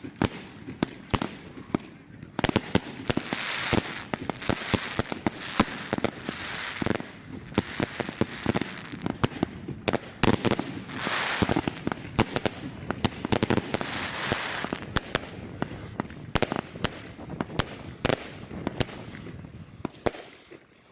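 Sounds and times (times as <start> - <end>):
fireworks bangs: 0.0 - 20.7.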